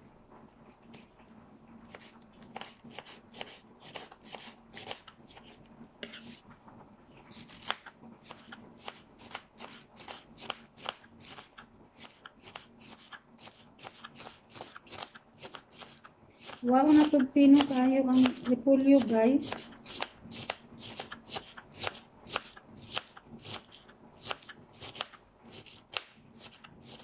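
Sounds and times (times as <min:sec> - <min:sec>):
knife slicing cabbage: 0:01.9 - 0:06.4, 0:07.3 - 0:27.0.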